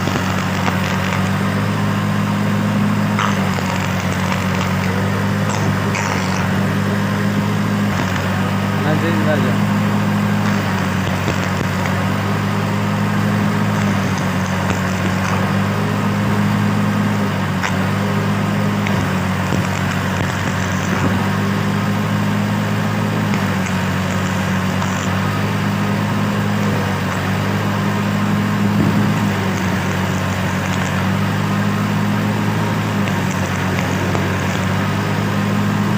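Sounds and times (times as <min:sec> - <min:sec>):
welding arc crackling: 0:00.0 - 0:35.9
welding machine hum: 0:00.0 - 0:35.9.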